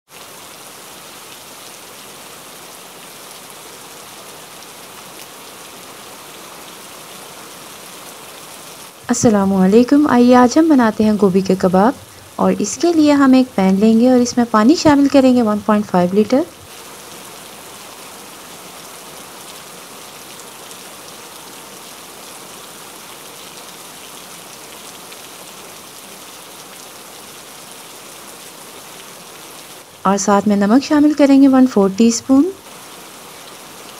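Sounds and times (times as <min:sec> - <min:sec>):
steady crackling hiss: 0:00.2 - 0:33.9.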